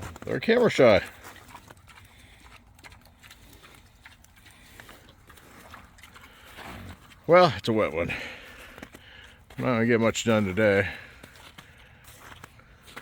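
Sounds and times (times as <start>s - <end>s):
pigs crunching grain: 0.0s - 13.0s.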